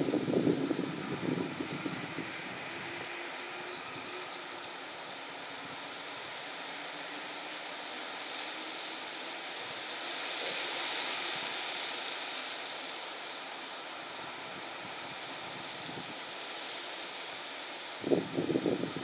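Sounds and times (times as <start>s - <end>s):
strong wind through trees: 0.0s - 19.0s.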